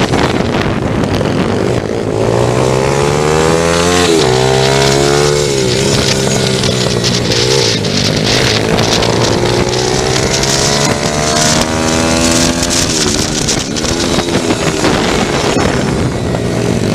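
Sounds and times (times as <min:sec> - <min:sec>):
motorbike engine revving: 0:00.0 - 0:16.9.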